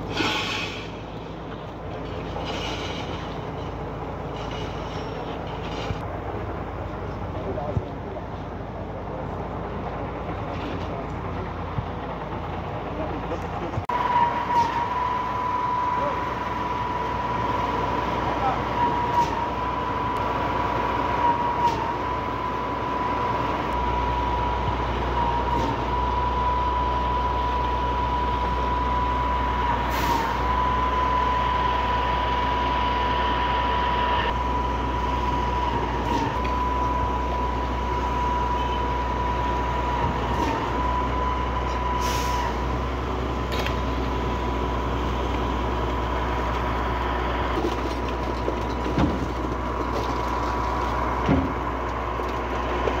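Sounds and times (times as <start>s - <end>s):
concrete pump engine drone: 0.0s - 53.0s.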